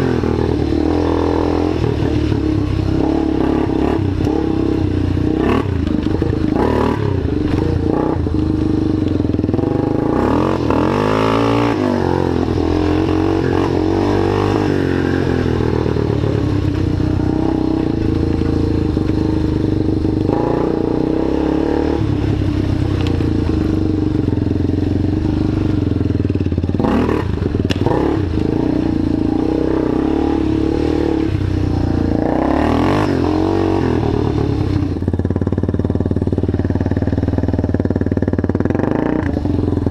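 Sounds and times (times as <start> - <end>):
atv engine idling: 1.9 - 11.0, 13.8 - 21.1, 22.2 - 32.4, 33.8 - 39.9.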